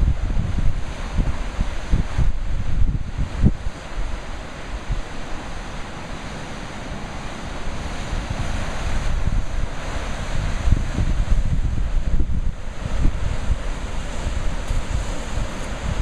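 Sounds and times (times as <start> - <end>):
surf breaking on rocks: 0.0 - 16.0
wind buffeting microphone: 0.0 - 16.0.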